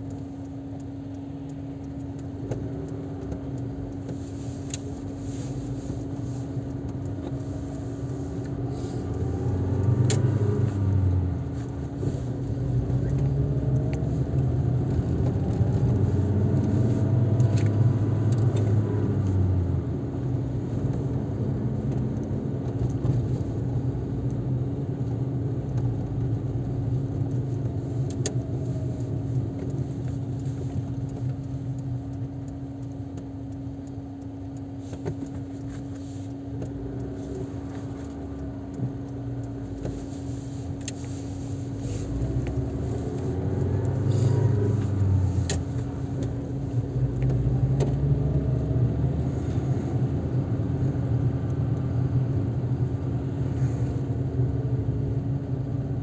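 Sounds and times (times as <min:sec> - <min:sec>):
car engine: 0:00.0 - 0:56.0.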